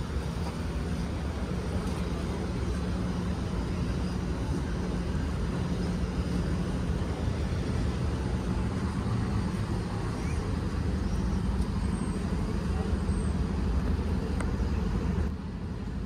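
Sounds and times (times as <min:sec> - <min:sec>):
low rumble of outdoor background noise: 0:00.0 - 0:16.0.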